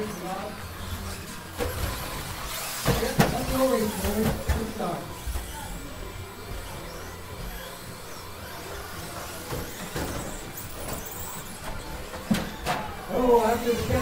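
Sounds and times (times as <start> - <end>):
rc truck motors and tyres: 0.0 - 14.0.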